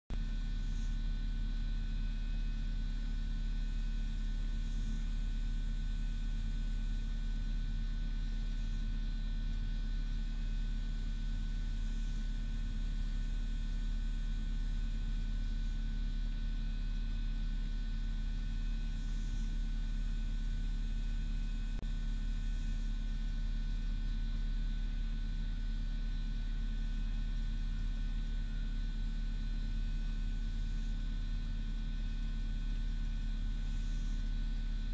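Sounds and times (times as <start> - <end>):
low electrical hum: 0.1 - 34.9.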